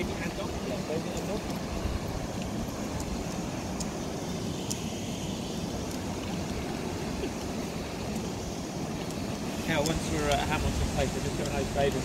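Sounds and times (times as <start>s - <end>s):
water rushing through weir gates: 0.0s - 12.0s.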